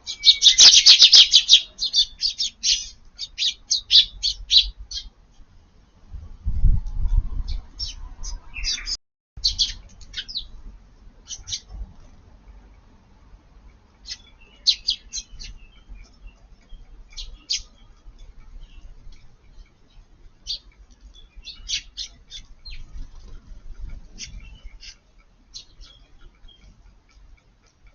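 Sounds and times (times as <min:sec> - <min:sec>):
sparrows chirping: 0:00.0 - 0:05.4, 0:07.5 - 0:12.1, 0:13.0 - 0:27.9.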